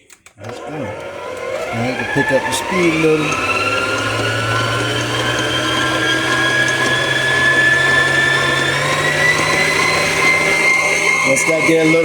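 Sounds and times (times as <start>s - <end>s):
electric mixer motor whine: 0.4s - 12.0s.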